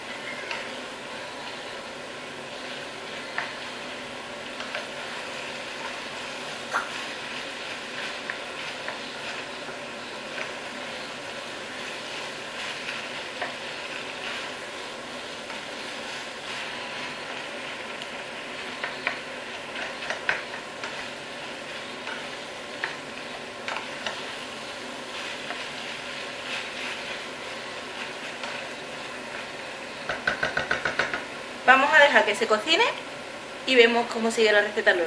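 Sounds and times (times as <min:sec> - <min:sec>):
spoon stirring and scraping pan: 0:00.0 - 0:31.4
meat sizzling in a frying pan: 0:00.0 - 0:35.0.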